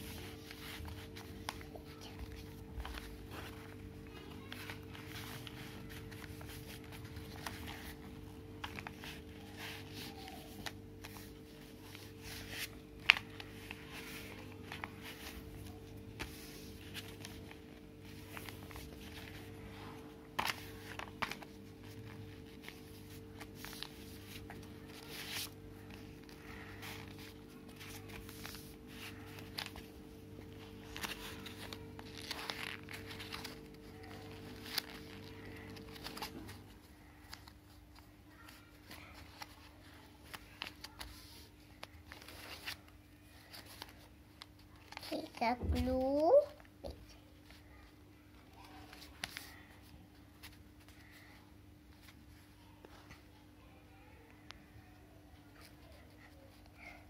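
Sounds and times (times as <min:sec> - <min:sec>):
paper rustling and crinkling: 0:00.0 - 0:53.3.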